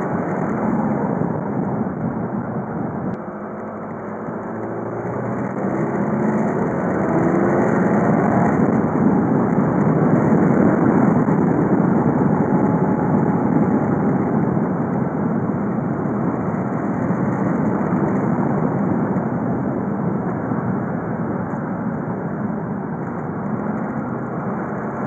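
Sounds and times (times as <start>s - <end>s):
diesel car engine driving: 0.0s - 25.0s
road noise: 0.0s - 25.0s.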